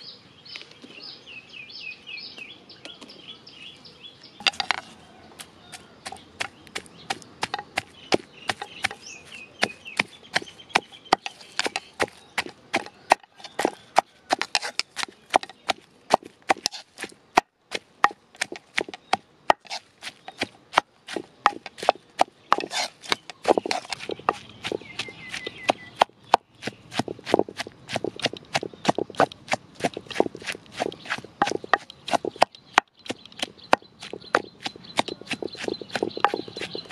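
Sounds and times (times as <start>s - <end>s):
faint birdsong: 0.0s - 36.9s
wooden pestle pounding in mortar: 4.4s - 4.9s, 5.7s - 9.0s, 9.6s - 36.9s.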